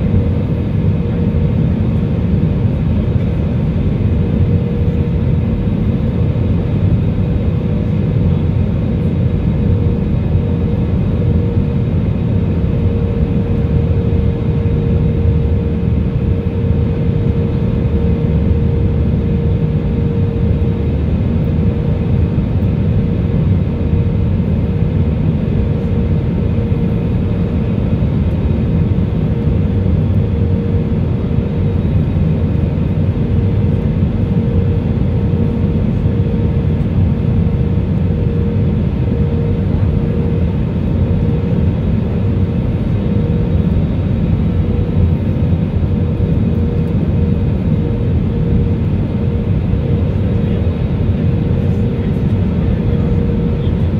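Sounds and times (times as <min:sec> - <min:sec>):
airplane cabin engine noise: 0:00.0 - 0:53.9
mid-pitched hum: 0:00.0 - 0:53.9.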